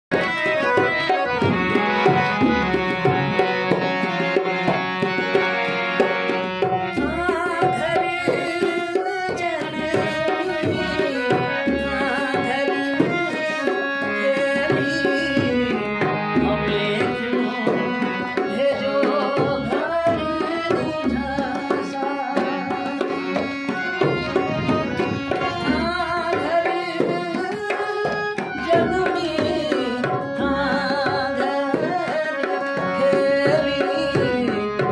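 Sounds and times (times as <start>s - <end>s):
hand drum: 0.1s - 34.9s
harmonium chords: 0.1s - 34.9s
man singing: 6.9s - 34.9s.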